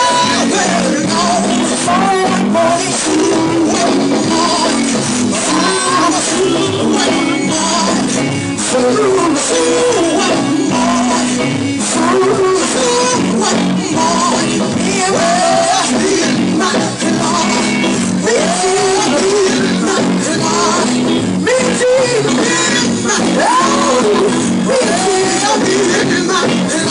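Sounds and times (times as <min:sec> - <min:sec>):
church band playing: 0:00.0 - 0:26.9
person singing gospel: 0:00.0 - 0:26.9.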